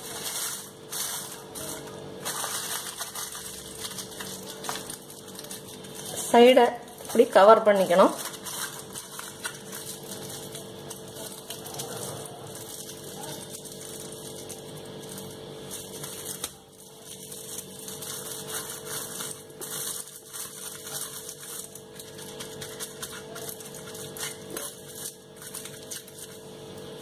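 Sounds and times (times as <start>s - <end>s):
aluminium foil crinkling: 0.0s - 27.0s.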